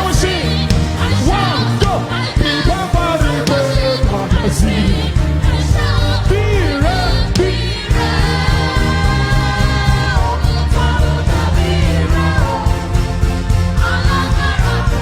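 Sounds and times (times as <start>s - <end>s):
person singing: 0.0s - 12.9s
gospel band playing: 0.0s - 15.0s.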